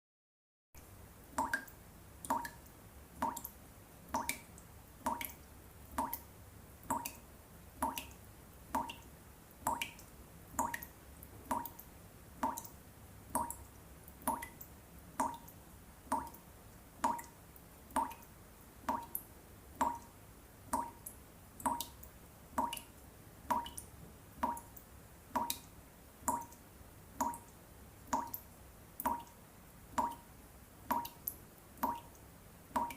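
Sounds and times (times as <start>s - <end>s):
tap dripping into water: 1.3s - 26.6s, 27.2s - 30.3s, 30.9s - 32.9s.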